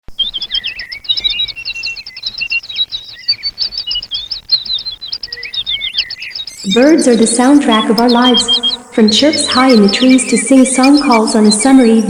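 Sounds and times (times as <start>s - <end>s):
songbirds chirping and singing: 0.1s - 12.0s.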